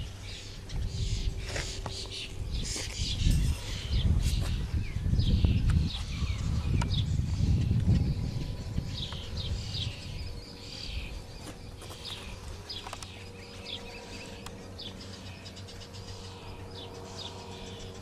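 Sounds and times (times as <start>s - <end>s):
faint steady hum: 0.0s - 18.0s
small birds chirping: 0.0s - 18.0s.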